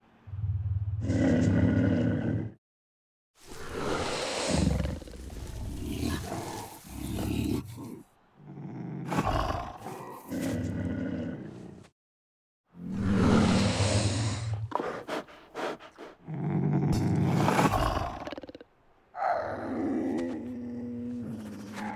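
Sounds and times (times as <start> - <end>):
creature growls and roars: 0.2 - 2.6, 3.5 - 11.9, 12.7 - 21.9.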